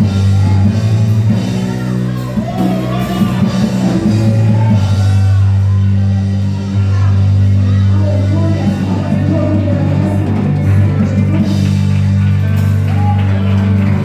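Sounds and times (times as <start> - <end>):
bass and keyboard chords: 0.0 - 14.0
electric guitar: 0.0 - 14.0.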